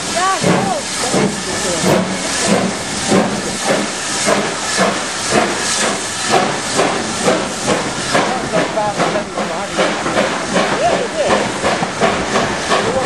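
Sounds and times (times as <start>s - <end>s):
hiss of steam: 0.0s - 13.0s
steam locomotive exhaust chuffing: 0.0s - 13.0s.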